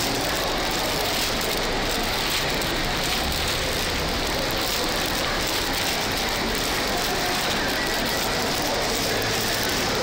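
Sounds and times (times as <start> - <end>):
crowd noise: 0.0 - 10.0
traffic: 0.0 - 10.0.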